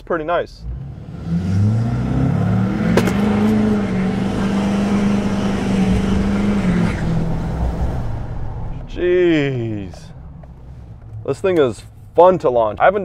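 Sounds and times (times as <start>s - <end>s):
diesel truck engine revving: 0.6s - 12.5s.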